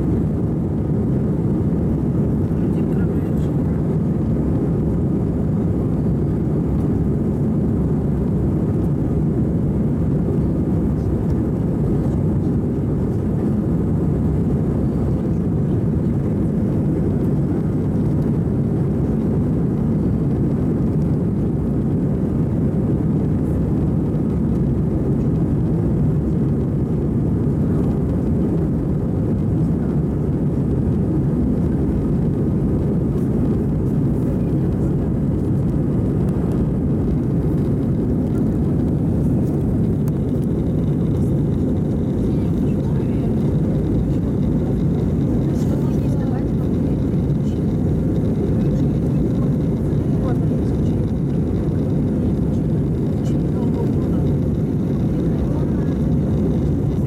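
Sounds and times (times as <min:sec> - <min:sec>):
airliner cabin engine rumble: 0:00.0 - 0:57.0.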